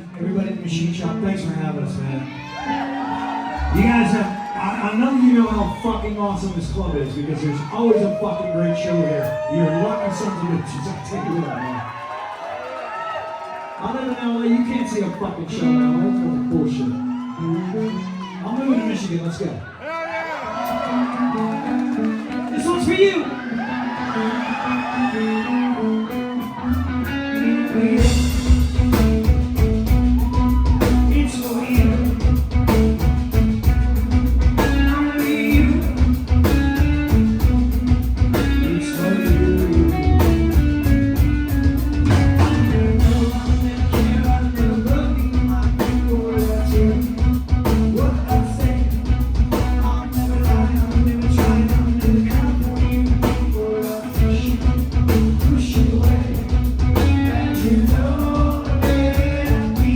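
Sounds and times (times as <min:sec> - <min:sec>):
electric guitar: 0:00.0 - 0:10.8, 0:14.8 - 0:18.5, 0:20.4 - 0:59.9
live rock band playing: 0:00.0 - 0:11.4, 0:14.4 - 0:19.4, 0:20.4 - 0:59.9.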